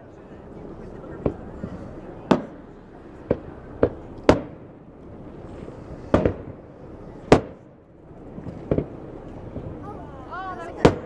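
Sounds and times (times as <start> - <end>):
firework shells booming: 1.2 - 9.9, 10.7 - 11.0.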